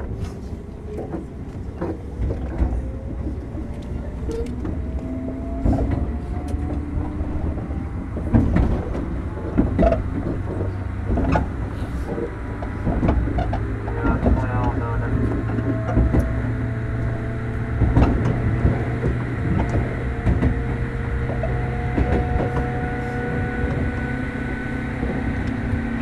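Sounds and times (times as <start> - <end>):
train rumble: 0.0 - 26.0
wheels clicking over rail joints: 0.0 - 26.0.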